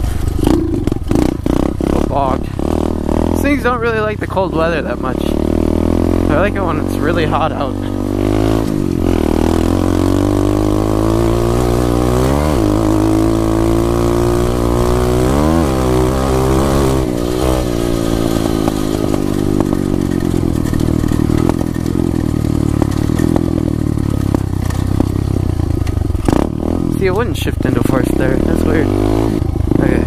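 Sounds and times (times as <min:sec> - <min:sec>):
motorbike engine revving: 0:00.0 - 0:30.0.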